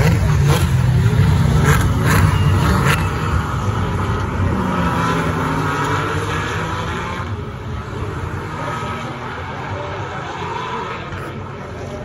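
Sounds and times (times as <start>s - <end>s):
race cars passing: 0.0s - 12.0s.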